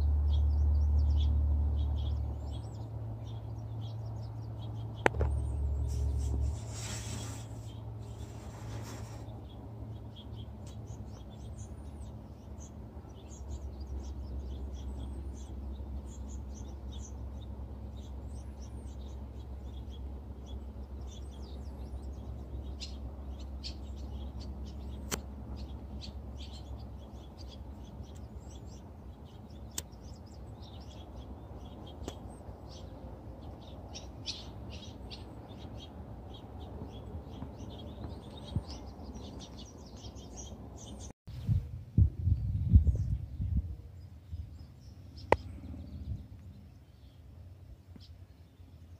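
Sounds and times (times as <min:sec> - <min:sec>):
low background rumble: 0:00.0 - 0:48.9
small birds chirping: 0:00.0 - 0:48.9.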